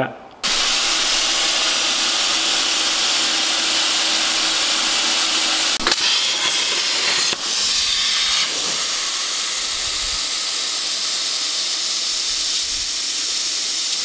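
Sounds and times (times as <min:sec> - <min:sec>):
plasma cutter hissing: 0:00.4 - 0:14.0.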